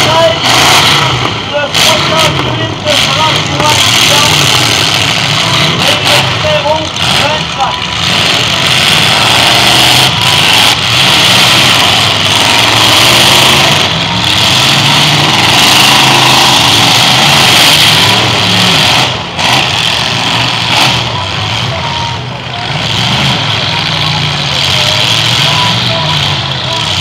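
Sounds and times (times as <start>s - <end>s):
car engines revving loudly: 0.0s - 27.0s.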